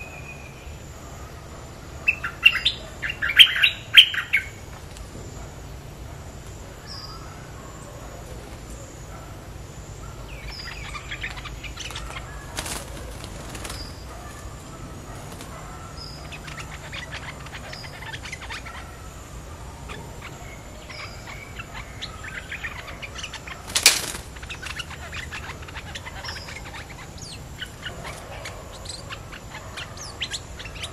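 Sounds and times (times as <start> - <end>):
faint steady background noise: 0.0 - 30.9.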